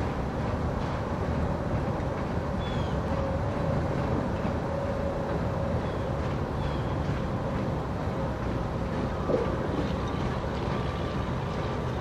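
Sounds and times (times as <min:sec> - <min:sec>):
diesel locomotive rumble: 0:00.0 - 0:12.0.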